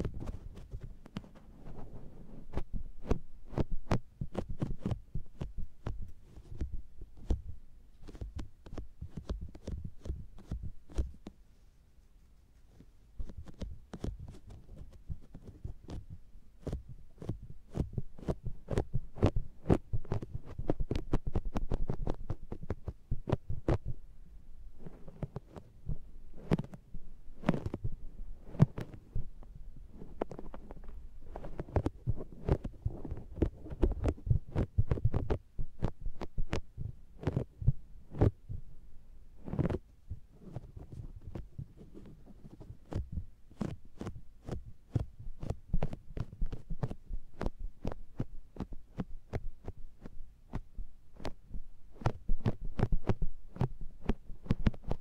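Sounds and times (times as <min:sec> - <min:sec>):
sponge patting on microphone: 0:00.0 - 0:24.0, 0:24.8 - 0:38.7, 0:39.4 - 0:55.0.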